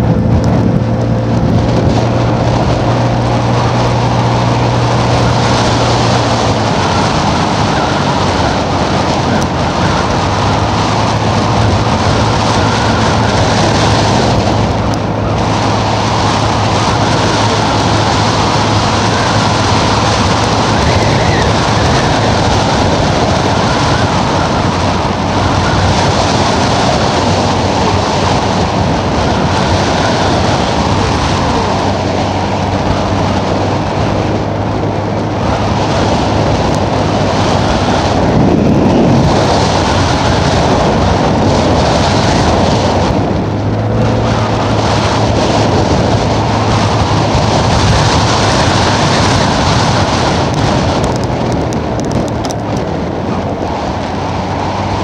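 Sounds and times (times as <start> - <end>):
low engine drone: 0.0 - 55.0
wind rushing over microphone: 0.0 - 55.0.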